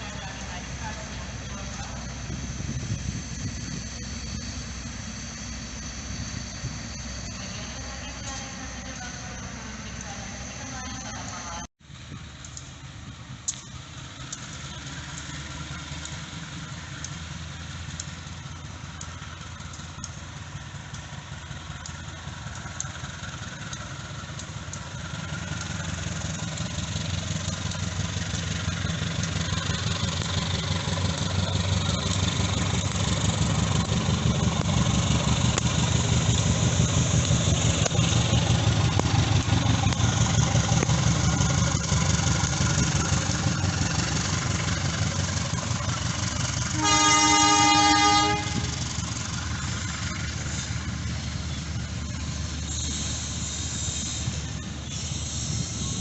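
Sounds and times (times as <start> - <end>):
diesel locomotive engine throbbing: 0.0 - 56.0.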